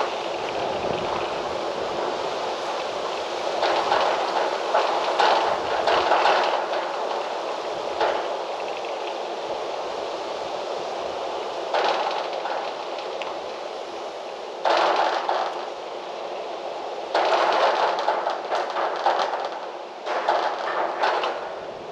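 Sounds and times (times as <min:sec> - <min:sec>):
crackling rustle: 0:00.0 - 0:21.9
wind gusting: 0:00.0 - 0:21.9.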